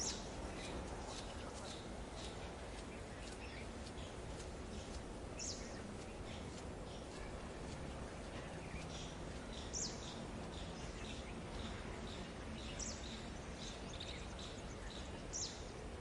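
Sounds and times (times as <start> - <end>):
small birds chirping: 0.0 - 16.0
steady background hiss: 0.0 - 16.0.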